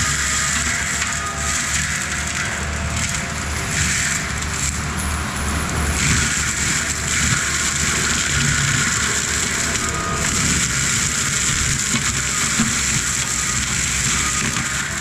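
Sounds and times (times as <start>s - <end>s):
diesel engine running hard: 0.0s - 15.0s
mulcher drum grinding brush: 0.0s - 15.0s.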